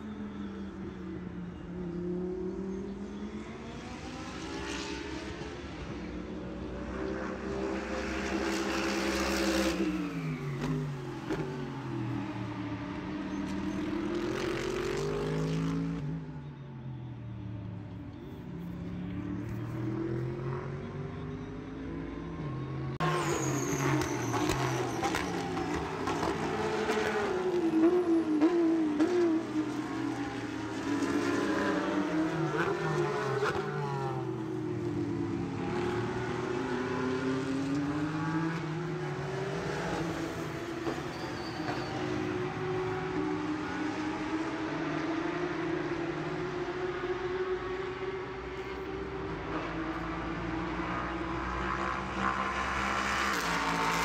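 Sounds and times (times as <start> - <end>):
engines revving: 1.6 - 16.2, 18.7 - 54.0.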